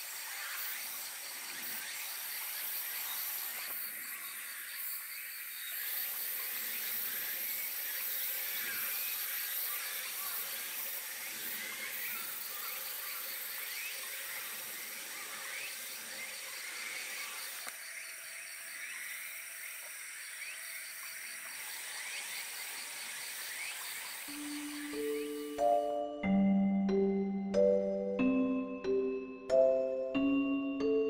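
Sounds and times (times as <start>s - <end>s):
high-pitched insect-like hiss: 0.0s - 25.9s.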